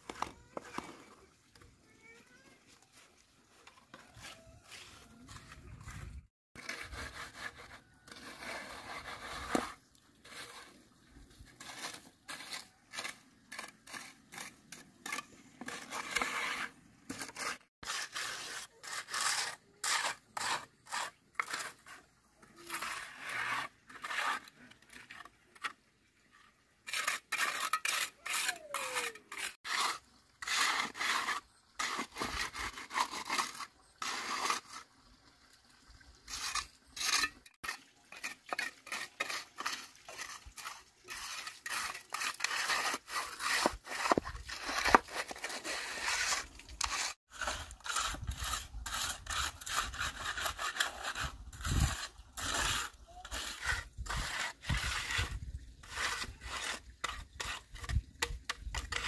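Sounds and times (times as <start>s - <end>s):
hand tool rasping on surface: 6.6s - 10.8s, 11.6s - 25.2s, 26.9s - 34.7s, 36.3s - 59.0s.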